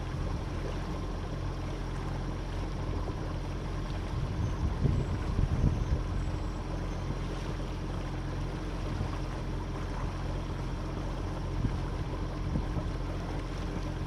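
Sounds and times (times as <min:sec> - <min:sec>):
boat engine running: 0:00.0 - 0:14.0
wind and water noise: 0:00.0 - 0:14.0.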